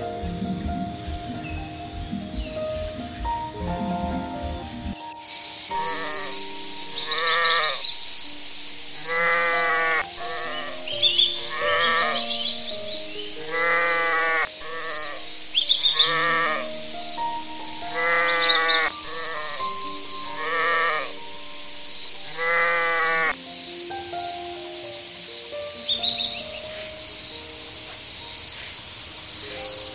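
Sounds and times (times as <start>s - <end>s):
soft background music: 0.0s - 29.9s.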